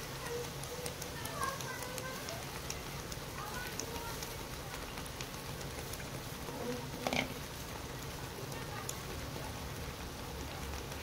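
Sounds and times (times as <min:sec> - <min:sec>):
oil and spices sizzling in wok: 0:00.0 - 0:11.0.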